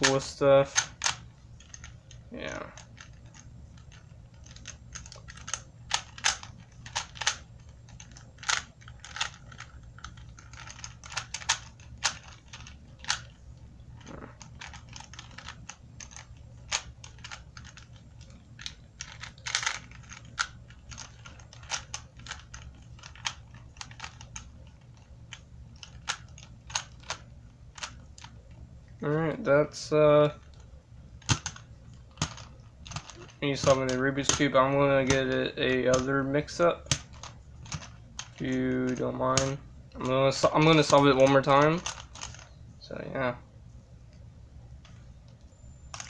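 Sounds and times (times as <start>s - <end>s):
puzzle cube plastic clicks: 0.0s - 28.4s, 30.2s - 42.6s, 44.8s - 46.0s.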